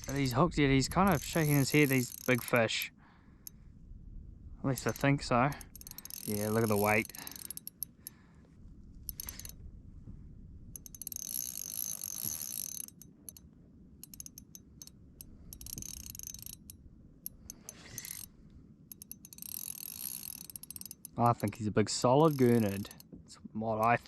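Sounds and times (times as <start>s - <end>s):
fishing reel ratcheting: 0.0s - 3.6s, 4.7s - 8.2s, 9.0s - 9.6s, 10.7s - 18.3s, 18.9s - 23.1s.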